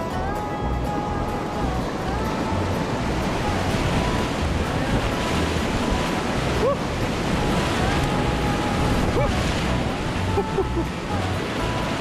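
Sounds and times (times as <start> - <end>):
river rapid water rushing: 0.0 - 12.0.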